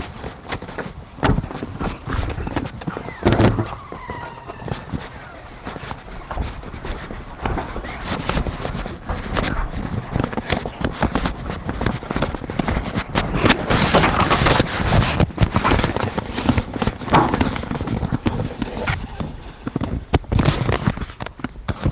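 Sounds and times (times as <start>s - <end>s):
camera rubbing against fabric: 0.0s - 21.9s.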